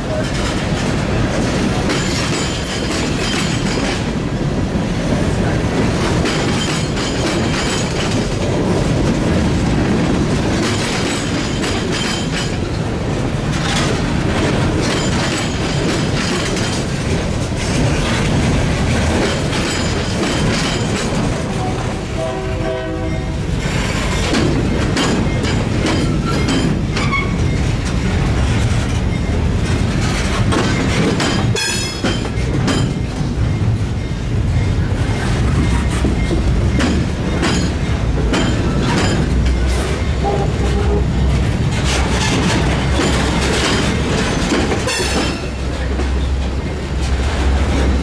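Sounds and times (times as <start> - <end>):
train wheels clattering over rail joints: 0.0 - 22.3, 23.4 - 48.0.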